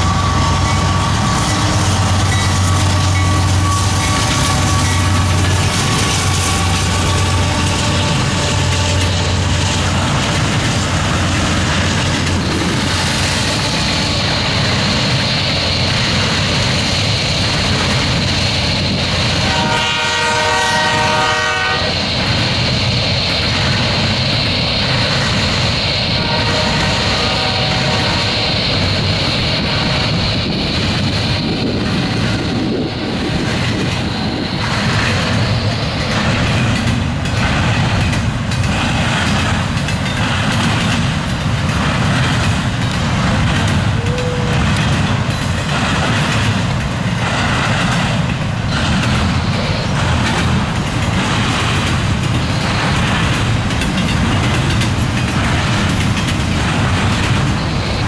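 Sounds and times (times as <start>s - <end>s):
freight train rolling roar: 0.0s - 58.0s
railcar wheels clacking: 0.0s - 58.0s.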